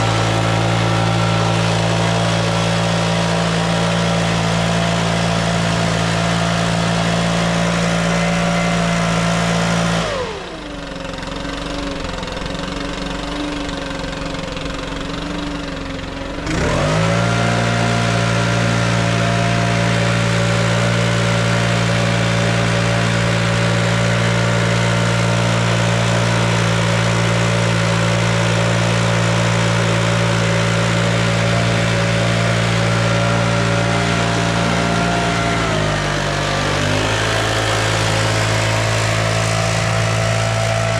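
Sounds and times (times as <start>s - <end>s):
small engine revving and idling: 0.0s - 40.9s.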